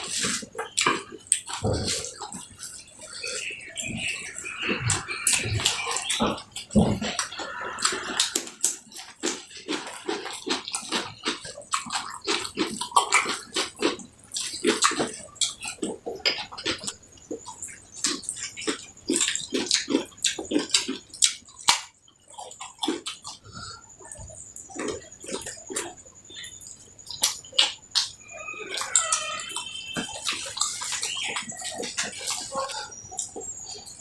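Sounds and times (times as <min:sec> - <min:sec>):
person chewing and smacking: 0:00.0 - 0:34.0.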